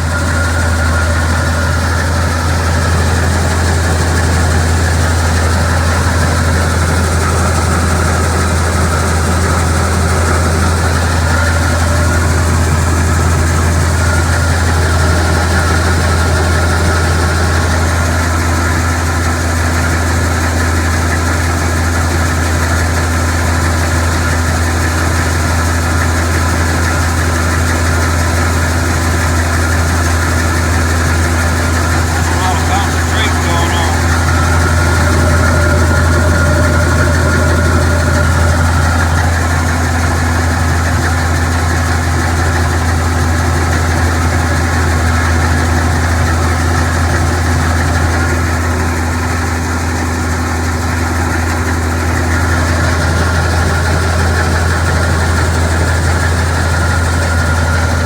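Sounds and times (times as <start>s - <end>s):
heavy engine running: 0.0s - 58.0s.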